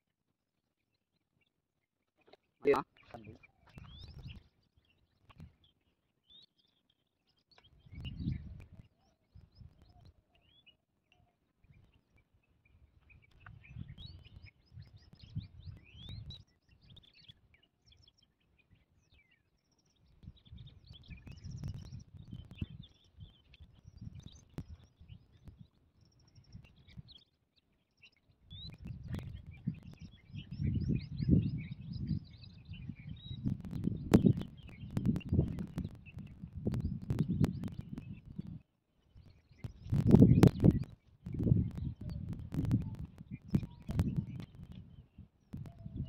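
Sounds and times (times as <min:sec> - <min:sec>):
small birds chirping: 0:00.9 - 0:46.0.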